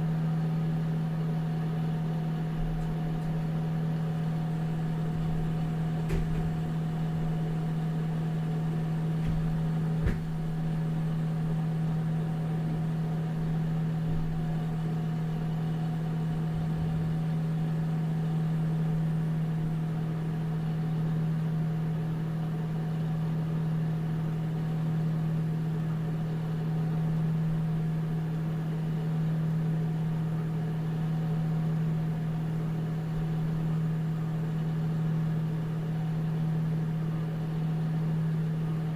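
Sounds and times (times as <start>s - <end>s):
microwave oven humming: 0.0s - 38.9s.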